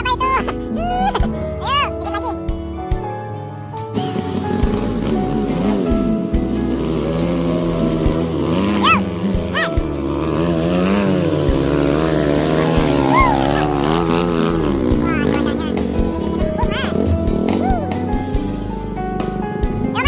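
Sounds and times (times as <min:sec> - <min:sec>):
vehicle engine revving: 0:03.9 - 0:20.0.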